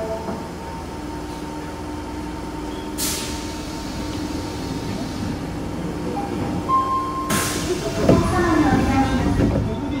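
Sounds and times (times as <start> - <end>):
train rumble with hum and whine: 0.0 - 10.0.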